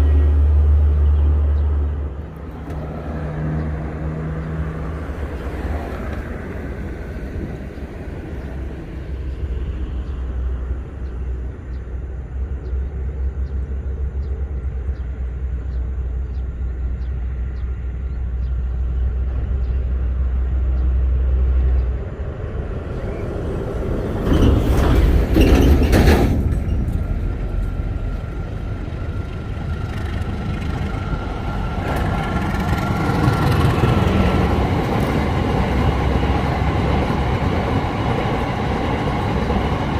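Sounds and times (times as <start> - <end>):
train rumbling: 0.0 - 39.9
train rushing past: 0.0 - 39.9.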